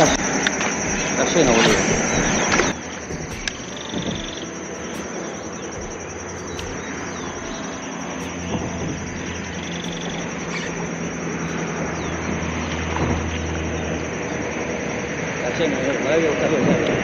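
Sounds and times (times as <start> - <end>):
high-pitched insect buzz: 0.0 - 13.8
distant engine hum: 0.0 - 16.8.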